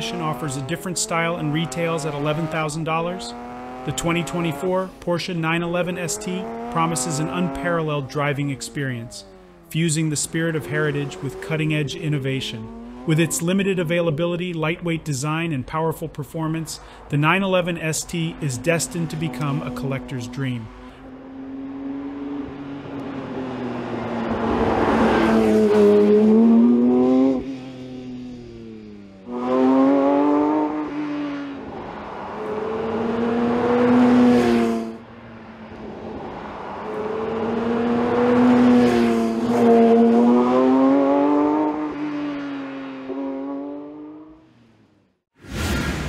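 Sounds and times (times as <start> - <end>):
car engine accelerating hard: 0.0 - 13.9, 16.7 - 44.6.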